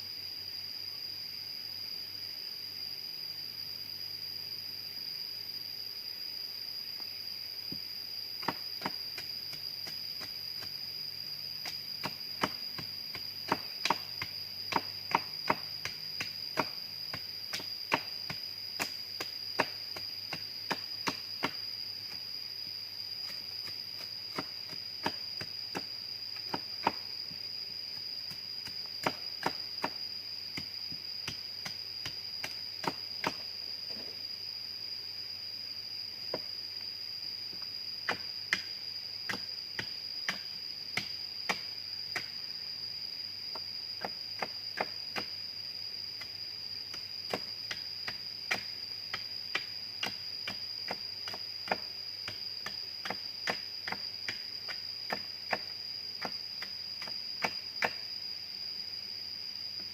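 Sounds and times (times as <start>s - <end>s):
jungle insects droning: 0.0s - 59.9s.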